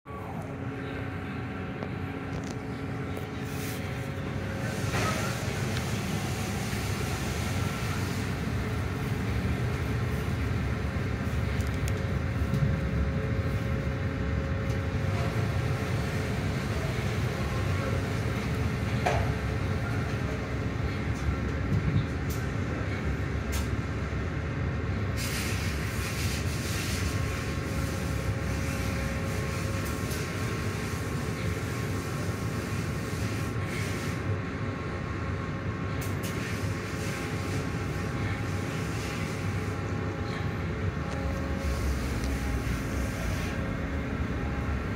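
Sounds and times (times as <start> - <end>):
car wash machinery rumbling: 0.1 - 44.9.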